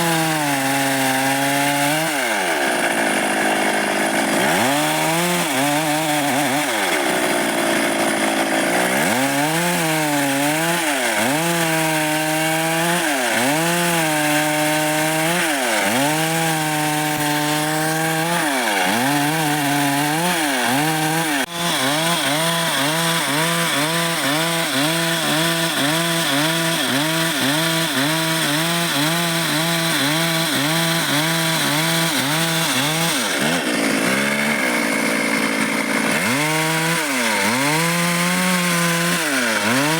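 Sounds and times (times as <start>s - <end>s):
chainsaw cutting dry wood: 0.0s - 39.9s.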